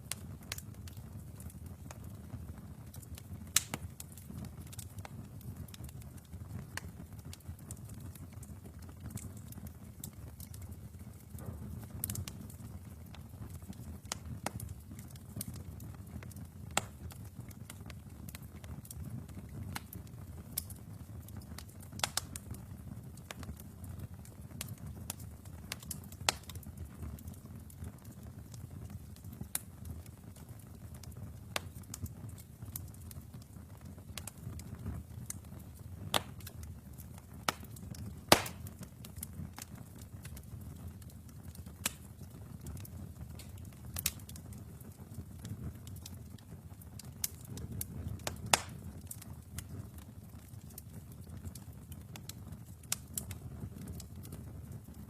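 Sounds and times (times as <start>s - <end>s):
fire crackling and popping: 0.0s - 55.0s
wood fire rumbling: 0.0s - 55.0s.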